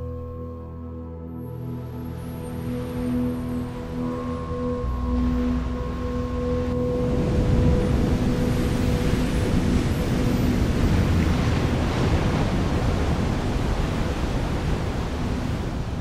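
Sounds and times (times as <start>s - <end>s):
ocean waves crashing: 2.2s - 16.0s.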